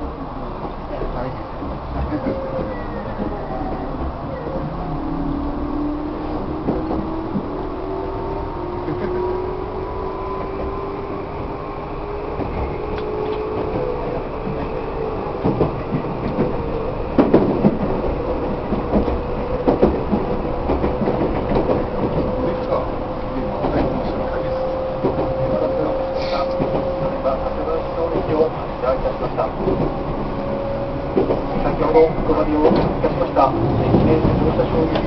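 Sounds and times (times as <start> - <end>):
rail-joint clicks and knocks: 0.6 - 9.4, 10.3 - 35.0.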